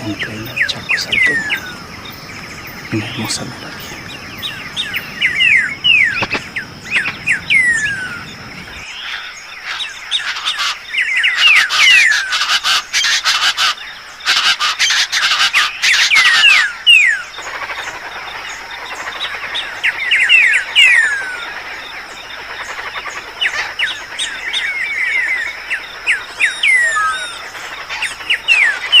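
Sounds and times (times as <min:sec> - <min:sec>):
birds calling: 0:00.0 - 0:29.0
harsh noisy bird calls: 0:00.0 - 0:29.0.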